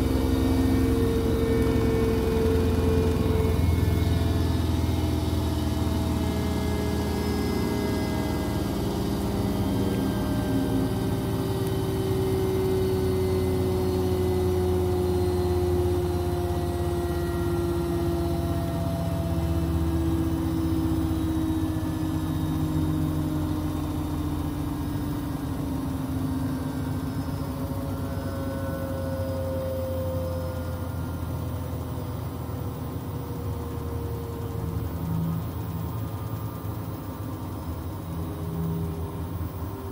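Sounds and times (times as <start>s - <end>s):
washing machine humming and whining: 0.0s - 39.9s.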